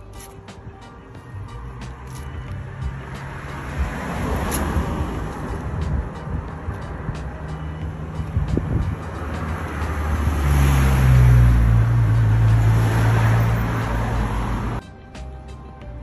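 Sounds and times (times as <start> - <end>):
motor vehicle passing: 1.6 - 14.8.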